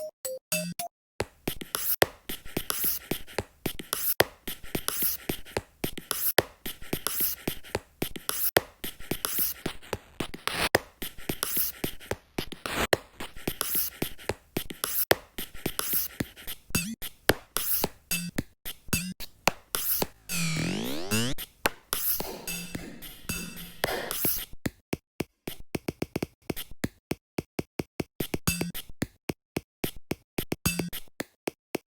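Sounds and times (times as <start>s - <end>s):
rhythmic beat of stylus taps: 0.0s - 27.0s, 28.2s - 31.4s.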